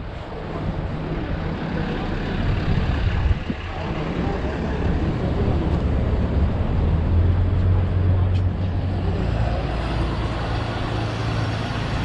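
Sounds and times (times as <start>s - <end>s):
faint voices: 0.0s - 12.0s
road vehicle engine and tyres rumble: 0.0s - 12.0s.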